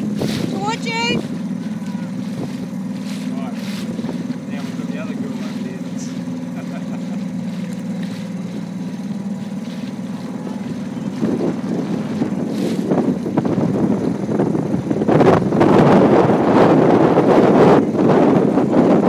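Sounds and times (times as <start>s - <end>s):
wind on microphone: 0.0s - 6.5s, 7.4s - 19.0s
small boat motor running: 0.0s - 19.0s.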